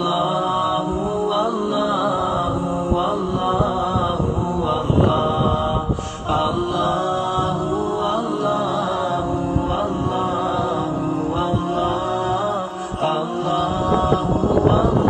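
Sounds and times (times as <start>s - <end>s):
melodic vocal chant music: 0.0s - 15.0s.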